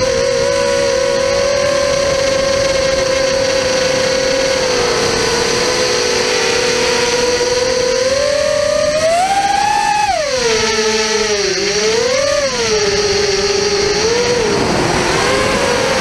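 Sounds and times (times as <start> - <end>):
propeller motor whine: 0.0 - 16.0
rushing wind: 0.0 - 16.0.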